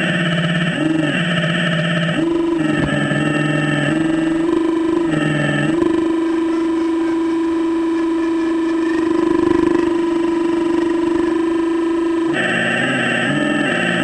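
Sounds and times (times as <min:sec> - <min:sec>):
electric drive whining: 0:00.0 - 0:14.0.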